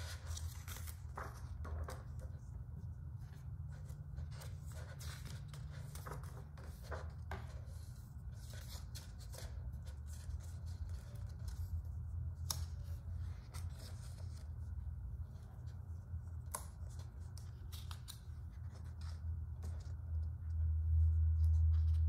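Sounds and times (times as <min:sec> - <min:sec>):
book pages turning: 0:00.0 - 0:22.0
low hum: 0:00.0 - 0:22.0.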